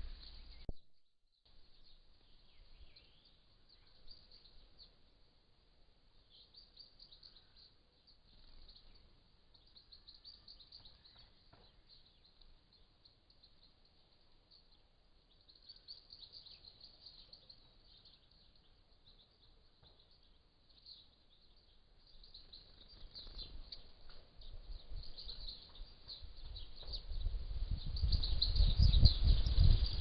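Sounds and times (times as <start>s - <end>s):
birds chirping: 0.0s - 0.8s, 1.6s - 5.2s, 6.2s - 30.0s.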